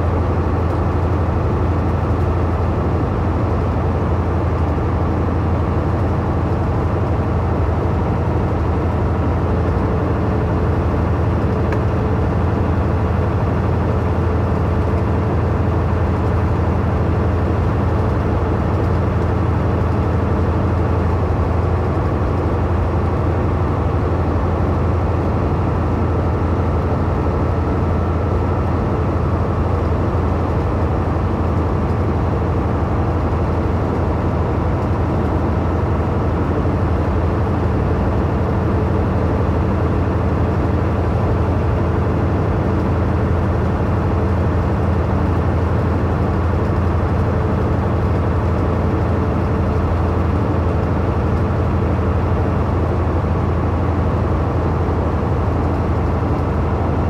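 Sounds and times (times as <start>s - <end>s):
diesel engine drone: 0.0s - 57.0s.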